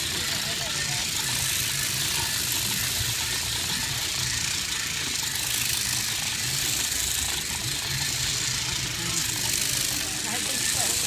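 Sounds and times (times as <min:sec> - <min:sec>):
hand-cranked shearing machine running: 0:00.0 - 0:11.0.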